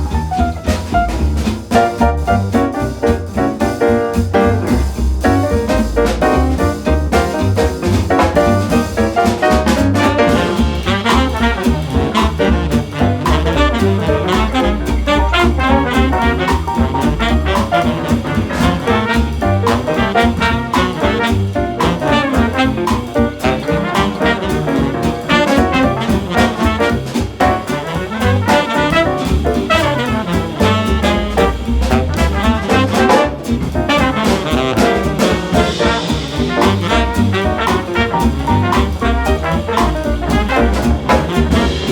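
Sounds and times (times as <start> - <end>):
instrumental swing jazz with brass: 0.0 - 41.9.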